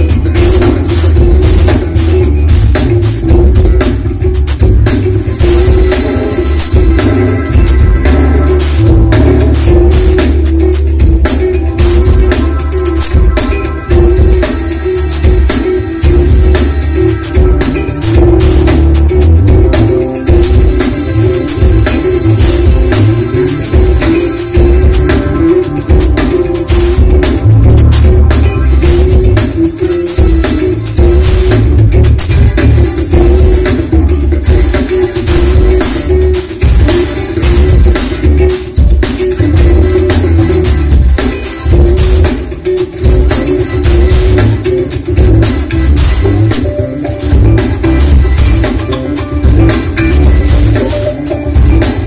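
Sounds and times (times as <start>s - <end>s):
drum kit: 0.0s - 52.0s
guitar: 0.0s - 52.0s
heavy bass: 0.0s - 52.0s
loud music through pa system: 0.0s - 52.0s.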